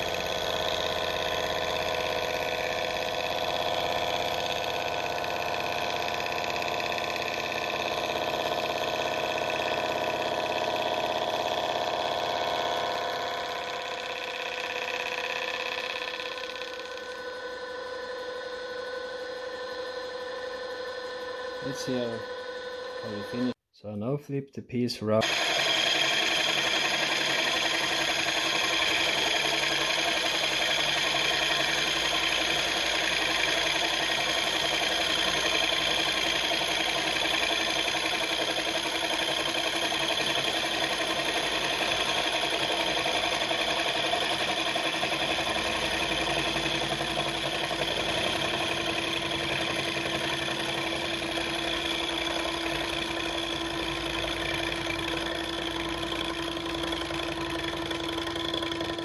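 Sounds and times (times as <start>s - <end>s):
milling machine cutting metal: 0.0s - 23.6s, 25.2s - 59.0s.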